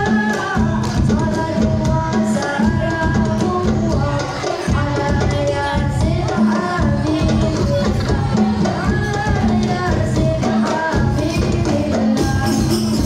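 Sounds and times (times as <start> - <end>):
hand frame drums: 0.0 - 13.0
young voices singing: 0.0 - 13.0.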